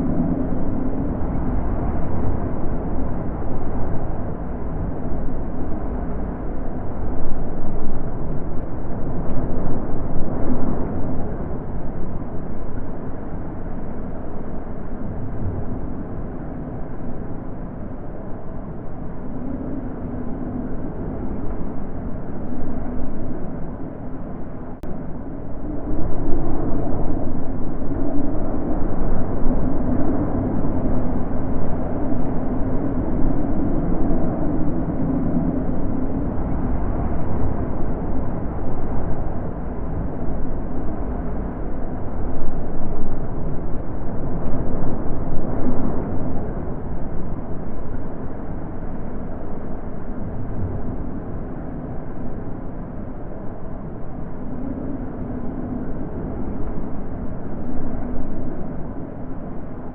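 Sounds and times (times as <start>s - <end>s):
wind blowing in gusts: 0.0s - 59.9s.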